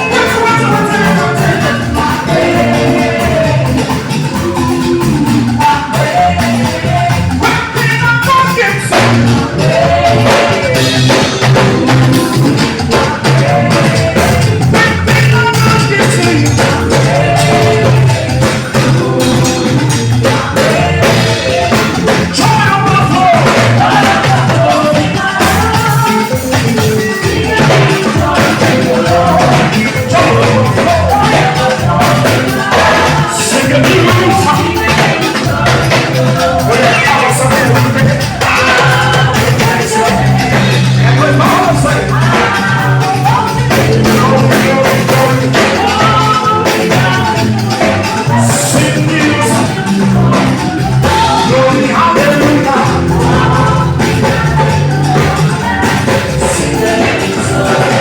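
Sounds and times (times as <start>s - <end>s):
bass line: 0.0s - 58.0s
drum kit: 0.0s - 58.0s
hand percussion: 0.0s - 58.0s
live band playing: 0.0s - 58.0s
person singing: 0.0s - 58.0s.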